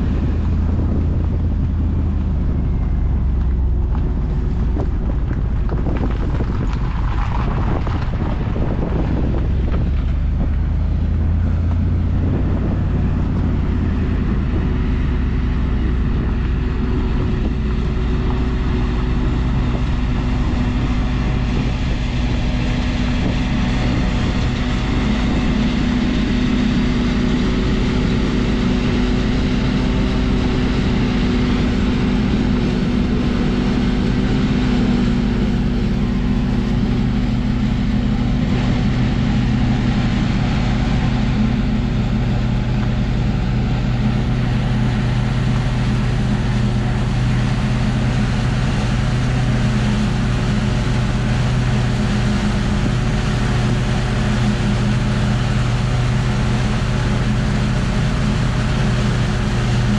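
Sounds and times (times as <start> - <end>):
farm machine droning: 7.5 - 59.9.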